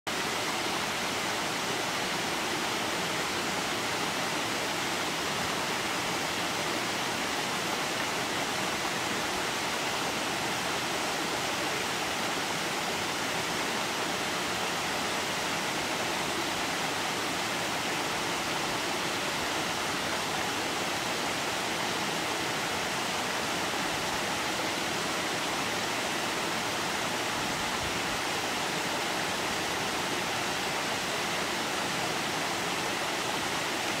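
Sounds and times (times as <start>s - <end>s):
waterfall cascading over rocks: 0.1s - 34.0s.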